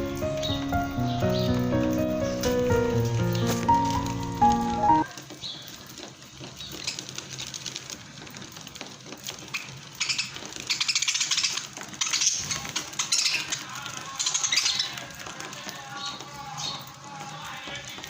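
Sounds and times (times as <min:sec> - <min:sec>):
birds' beaks pecking and cracking food: 0:01.4 - 0:18.0.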